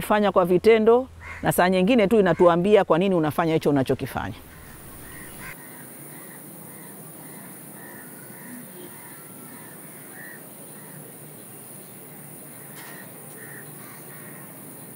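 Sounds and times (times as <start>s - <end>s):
steady background hiss: 0.0s - 14.9s.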